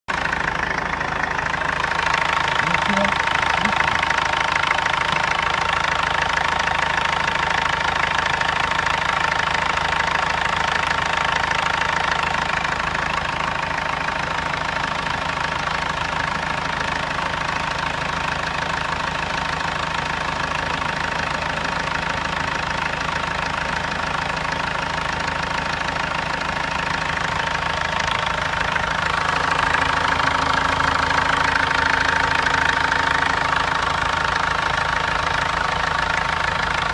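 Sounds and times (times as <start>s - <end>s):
car engine knocking: 0.1s - 36.9s.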